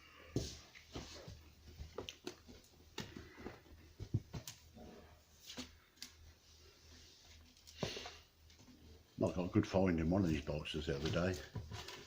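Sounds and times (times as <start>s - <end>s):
rustling: 0.4s - 12.0s.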